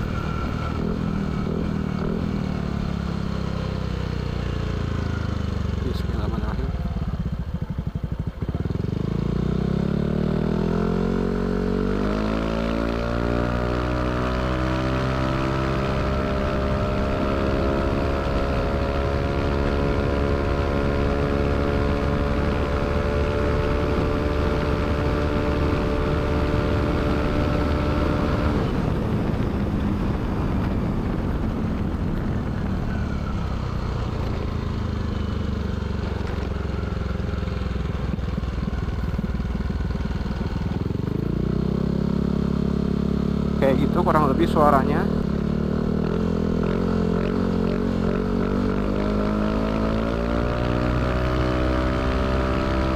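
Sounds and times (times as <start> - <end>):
rushing wind and road noise: 0.0 - 52.9
scooter engine accelerating: 0.0 - 52.9.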